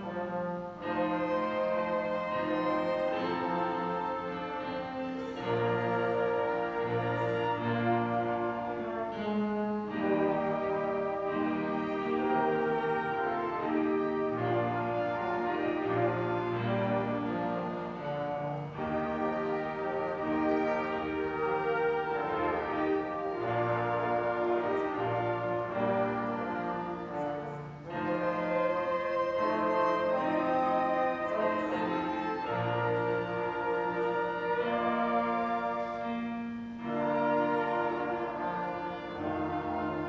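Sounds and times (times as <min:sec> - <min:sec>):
orchestral instrumental music: 0:00.0 - 0:40.0.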